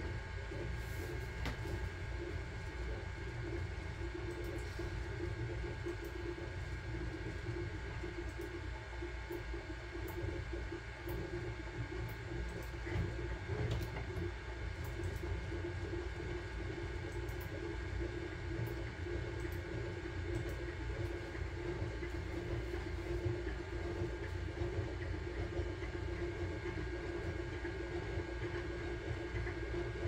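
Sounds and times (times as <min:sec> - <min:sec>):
printer motors humming: 0:00.0 - 0:30.0
thin constant whine: 0:00.0 - 0:30.0.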